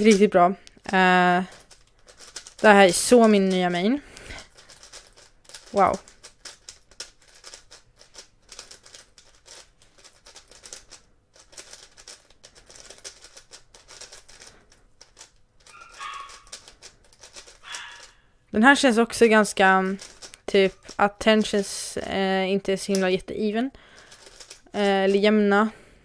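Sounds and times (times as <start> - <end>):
puzzle cube plastic clicks: 0.0 - 18.2, 19.1 - 25.4.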